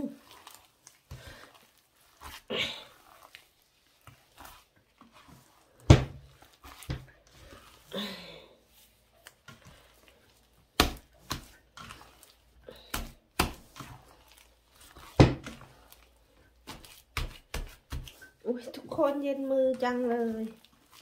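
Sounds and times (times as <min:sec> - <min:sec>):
hand squelching meat paste: 0:00.0 - 0:21.0.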